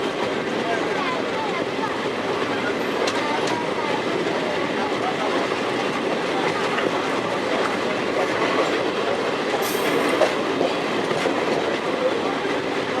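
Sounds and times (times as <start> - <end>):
train wheels rumbling on rails: 0.0 - 13.0
faint clicks of rails: 2.0 - 13.0.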